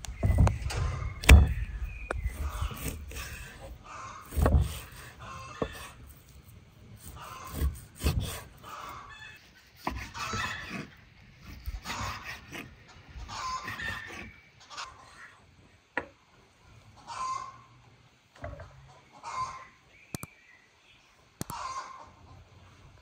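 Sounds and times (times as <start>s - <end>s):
chickens clucking: 0.0s - 6.2s, 7.0s - 15.4s, 16.9s - 17.8s, 18.4s - 20.3s, 21.4s - 23.0s.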